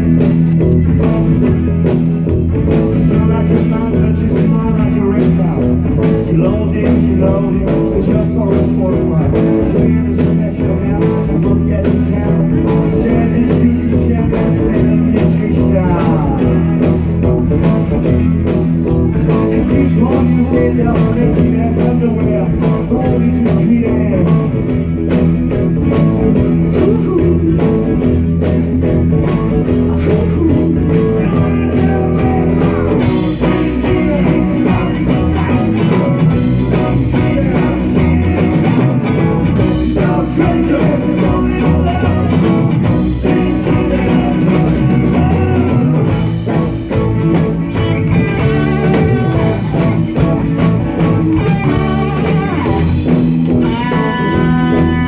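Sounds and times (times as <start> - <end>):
live band playing blues rock: 0.0 - 55.0.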